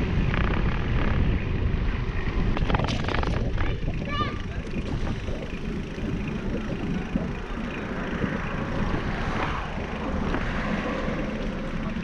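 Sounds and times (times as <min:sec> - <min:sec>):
bicycle rolling on brick path: 0:00.0 - 0:12.0
wind rumble on microphone: 0:00.0 - 0:12.0.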